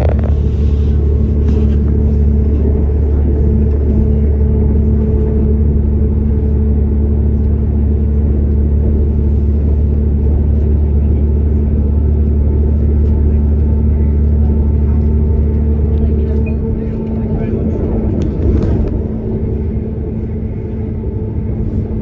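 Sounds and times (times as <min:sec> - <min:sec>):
running gear rumbling on track: 0:00.0 - 0:22.0
train diesel engine drone: 0:00.0 - 0:22.0.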